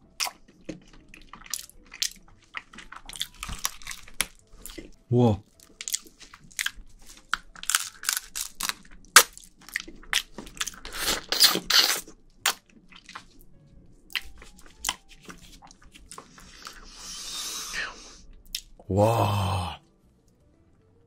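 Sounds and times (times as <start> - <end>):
wet chewing and sucking: 0.0 - 18.8.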